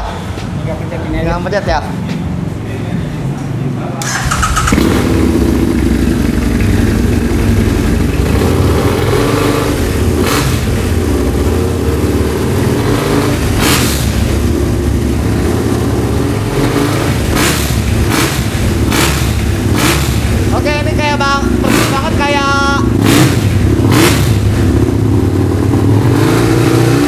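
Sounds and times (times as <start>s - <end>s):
motorcycle engine revving: 4.0s - 27.0s.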